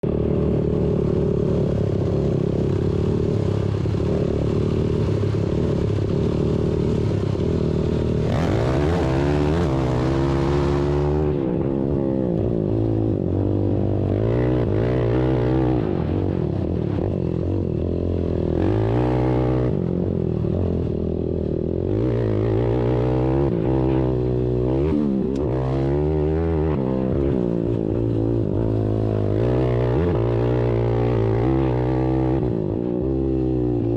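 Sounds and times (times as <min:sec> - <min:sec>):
atv engines revving: 0:00.0 - 0:33.9.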